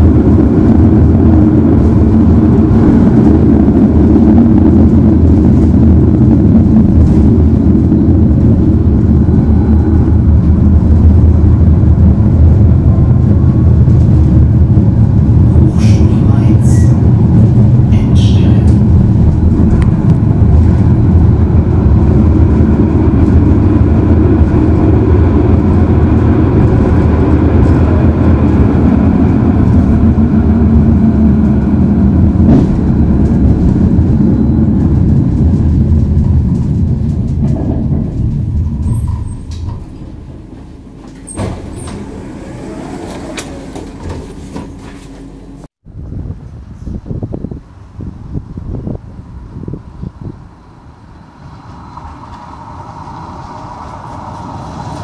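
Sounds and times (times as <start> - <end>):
tram wheels rumbling on rails: 0.0 - 55.0.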